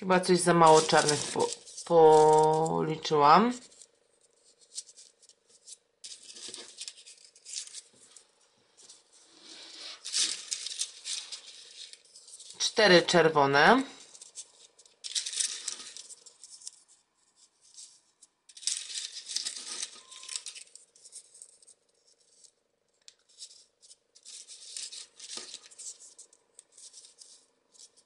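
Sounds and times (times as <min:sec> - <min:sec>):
paper modules rustling: 0:00.0 - 0:28.0.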